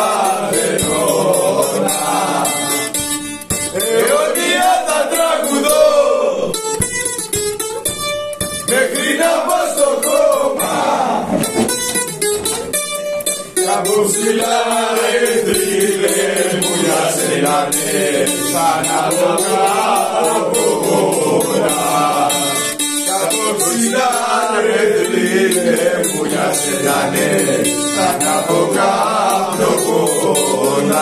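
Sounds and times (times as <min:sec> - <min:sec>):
person singing: 0:00.0 - 0:03.0, 0:03.6 - 0:06.6, 0:08.7 - 0:11.3, 0:13.6 - 0:31.0
plucked bouzouki: 0:00.0 - 0:31.0.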